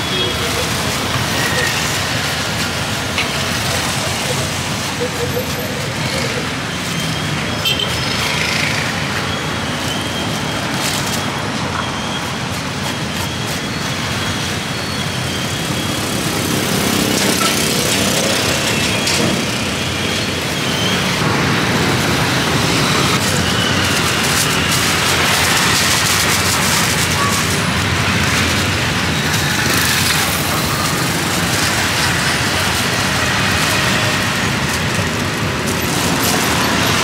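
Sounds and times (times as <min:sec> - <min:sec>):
motorbikes passing: 0:00.0 - 0:37.0
street traffic: 0:00.0 - 0:37.0.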